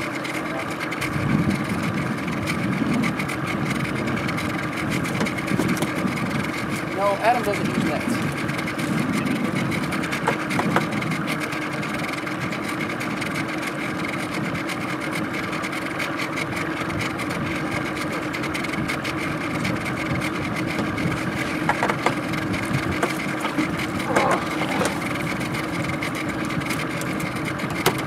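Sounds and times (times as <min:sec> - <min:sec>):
boat motor idling: 0:00.0 - 0:28.0.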